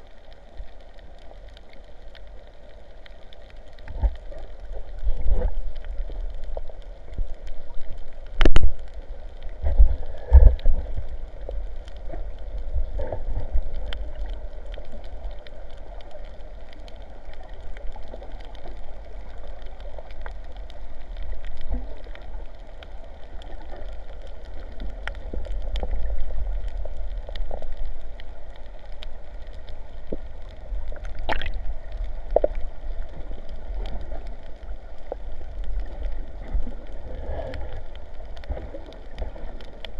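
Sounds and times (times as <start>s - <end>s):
sea water sloshing and gurgling: 0.0s - 39.9s.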